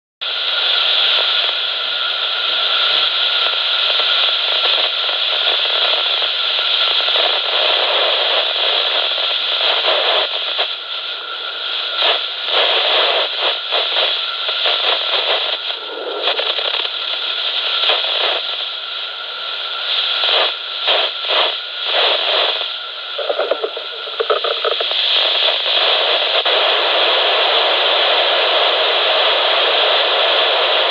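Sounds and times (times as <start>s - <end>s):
radio hiss: 0.2s - 30.9s.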